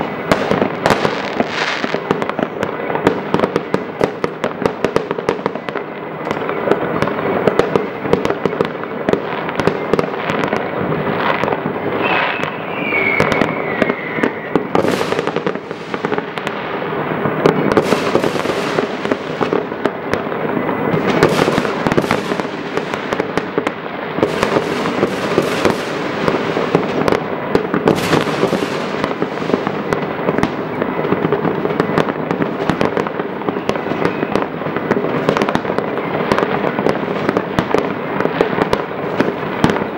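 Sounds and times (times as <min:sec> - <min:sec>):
falling firework whistle: 0:00.0 - 0:39.9
fireworks crackling and banging: 0:00.0 - 0:39.9.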